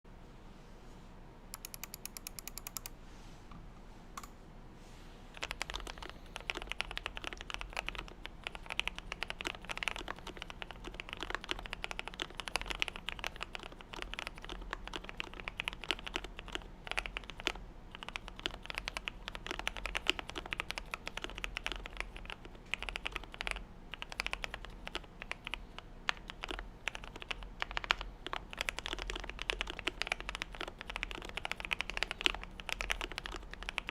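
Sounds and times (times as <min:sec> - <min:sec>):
keyboard typing: 0:01.5 - 0:03.0, 0:05.3 - 0:33.9.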